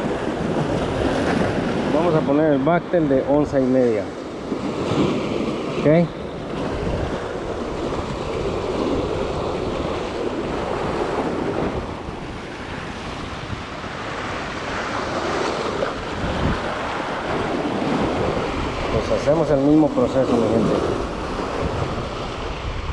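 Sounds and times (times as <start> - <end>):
ocean surf breaking over rocks: 0.0 - 22.9
wind buffeting microphone: 0.0 - 22.9.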